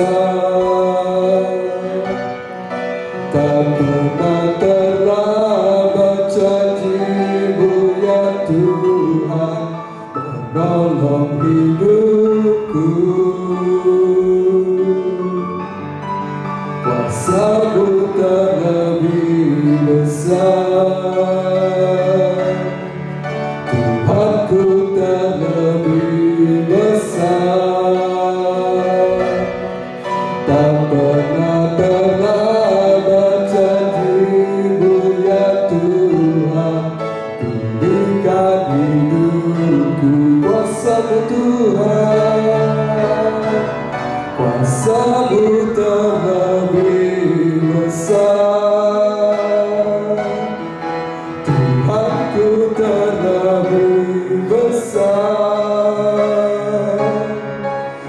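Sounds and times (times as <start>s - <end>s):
instrumental backing music: 0.0s - 58.0s
man singing into a microphone: 0.0s - 58.0s.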